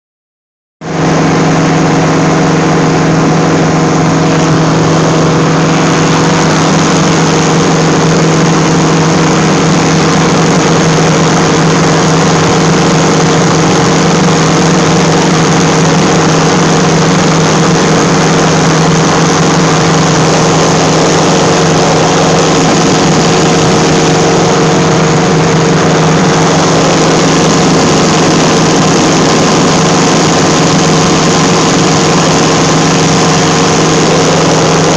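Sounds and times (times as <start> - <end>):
engine and propeller droning: 0.8 - 34.9.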